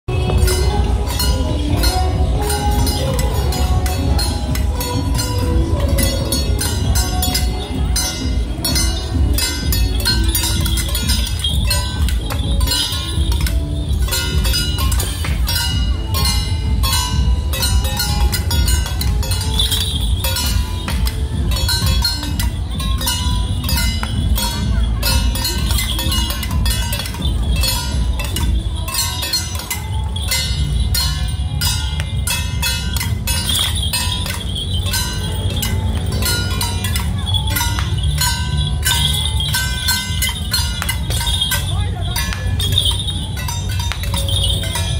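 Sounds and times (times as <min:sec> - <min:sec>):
bell-like metal clangs: 0:00.1 - 0:44.9
drum beating: 0:00.1 - 0:44.9.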